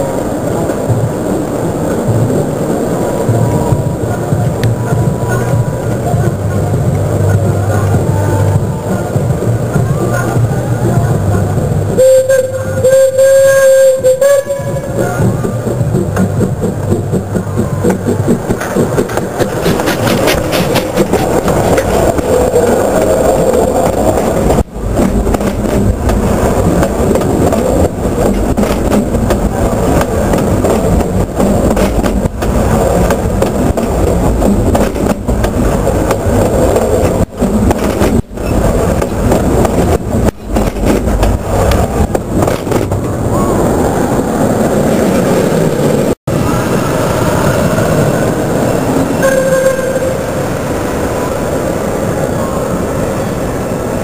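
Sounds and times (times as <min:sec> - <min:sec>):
train cars rumbling over track: 0:00.0 - 0:54.0.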